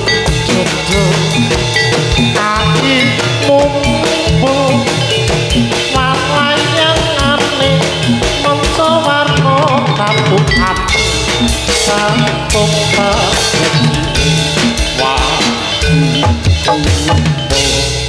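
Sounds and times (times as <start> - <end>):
steady drumming: 0.0 - 18.0
wavering melody: 0.0 - 18.0.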